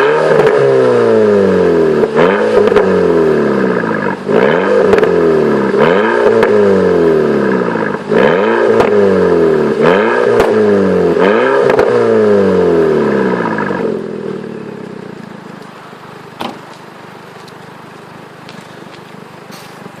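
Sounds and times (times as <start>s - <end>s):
car engine revving: 0.0s - 19.5s.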